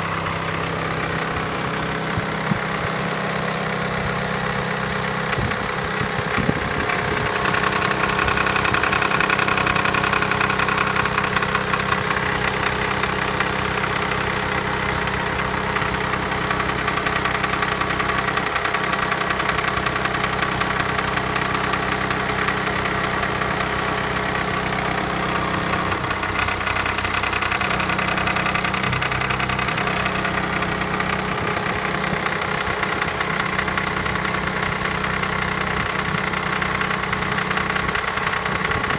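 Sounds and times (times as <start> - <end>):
diesel engine clattering: 0.0 - 38.9.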